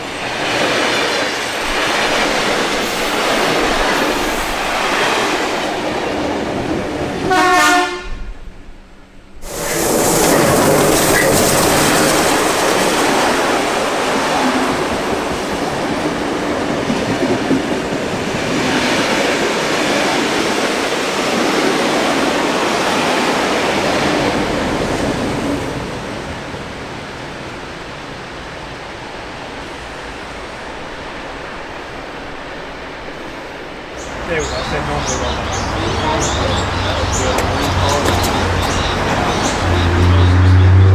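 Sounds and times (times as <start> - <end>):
train wheels on rails: 0.0 - 7.6, 9.3 - 40.9.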